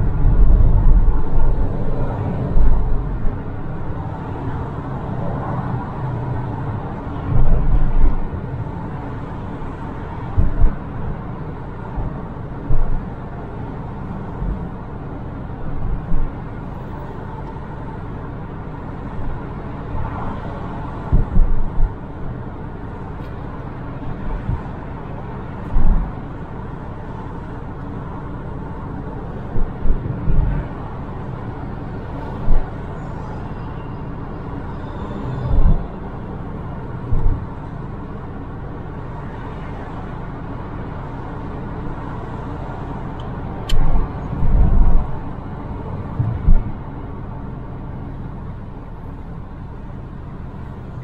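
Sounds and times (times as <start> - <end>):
car road rumble: 0.0 - 51.0.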